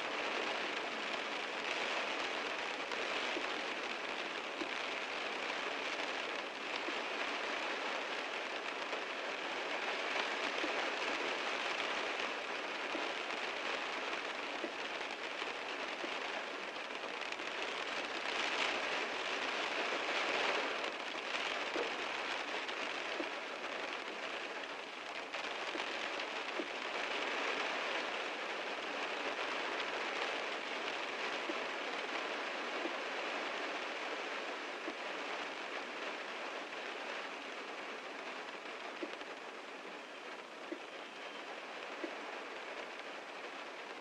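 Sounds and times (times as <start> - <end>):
heavy rain on car roof: 0.0 - 44.0.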